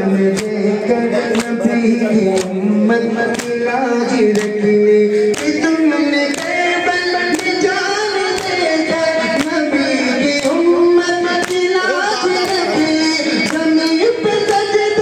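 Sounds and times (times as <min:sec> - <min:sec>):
man singing lament: 0:00.0 - 0:15.0.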